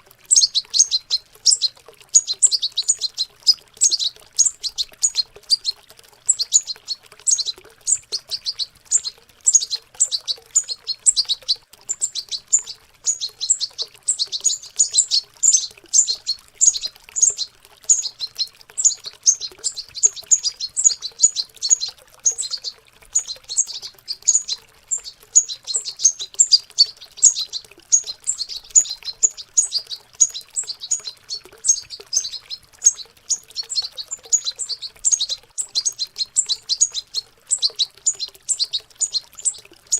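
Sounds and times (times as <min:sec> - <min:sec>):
faint running water: 0:00.0 - 0:39.9
finches twittering: 0:00.2 - 0:39.9.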